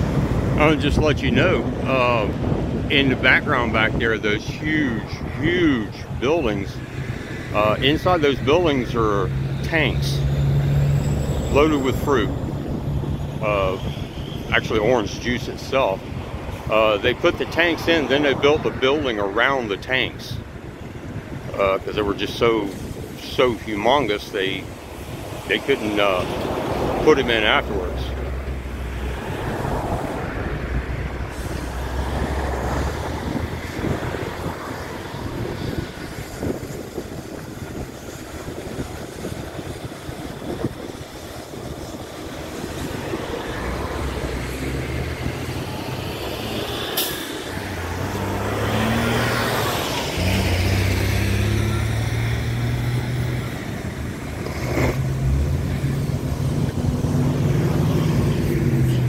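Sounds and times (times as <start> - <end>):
truck engines droning: 0.0 - 59.0.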